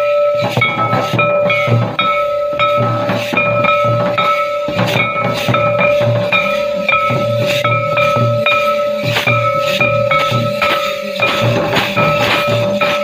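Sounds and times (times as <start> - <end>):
drums beaten in dance rhythm: 0.0 - 13.0
steady held tone: 0.0 - 13.0.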